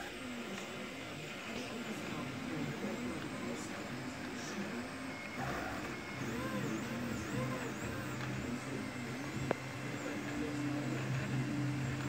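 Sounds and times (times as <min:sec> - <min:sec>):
cooling fans humming: 0:00.0 - 0:12.0
stepper motors whining: 0:00.0 - 0:12.0.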